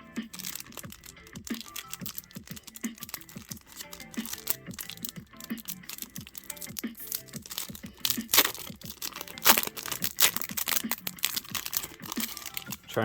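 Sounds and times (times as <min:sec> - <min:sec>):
foil pack tearing and crinkling: 0:00.3 - 0:13.0.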